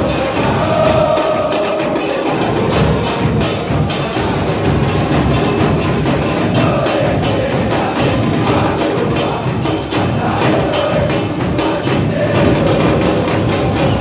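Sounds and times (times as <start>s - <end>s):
crowd singing a chant: 0.0s - 14.0s
drums and cymbals beating: 0.0s - 14.0s.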